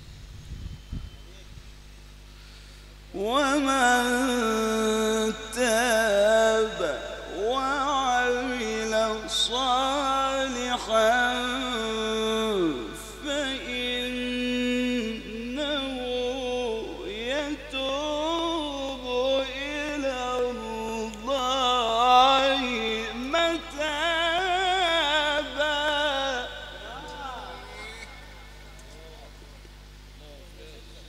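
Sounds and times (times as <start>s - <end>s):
man reciting melodically: 3.1s - 29.4s.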